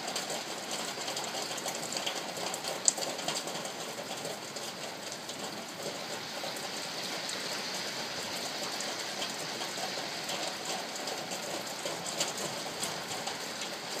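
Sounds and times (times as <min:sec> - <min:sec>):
rain on a tin roof: 0:00.0 - 0:14.0.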